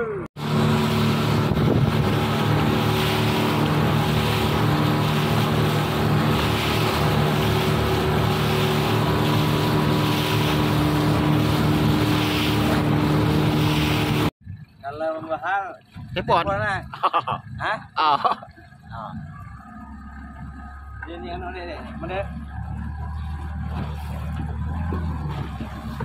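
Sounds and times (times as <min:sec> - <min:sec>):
speedboat engine running: 0:00.0 - 0:26.0
wind: 0:00.0 - 0:26.0
water rushing along hull: 0:00.4 - 0:26.0.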